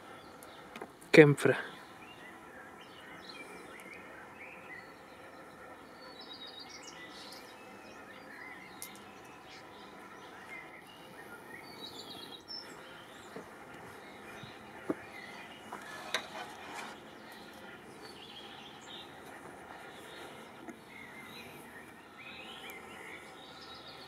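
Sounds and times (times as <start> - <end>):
small birds chirping: 0.0 - 24.0
steady background hiss: 0.0 - 24.0.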